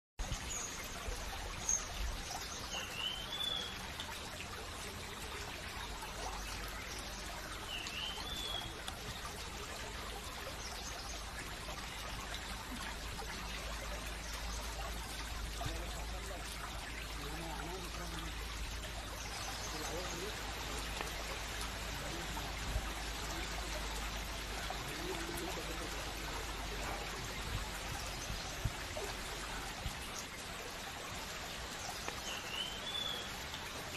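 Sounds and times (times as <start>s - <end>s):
running water trickling: 0.2s - 33.9s.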